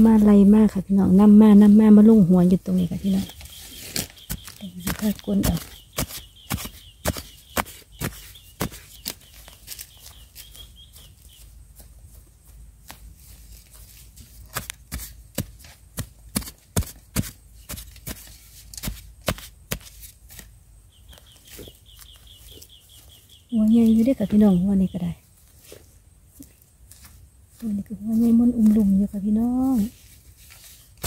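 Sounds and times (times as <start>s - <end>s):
hands scraping loose soil: 2.0s - 24.5s, 25.4s - 31.0s.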